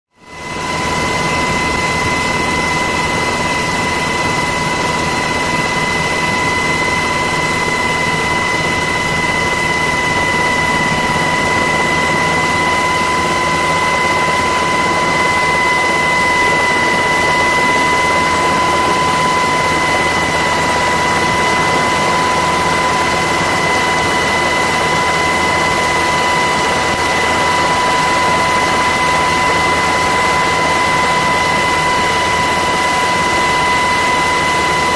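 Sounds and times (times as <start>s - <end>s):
turbine engine high whine: 0.1s - 34.9s.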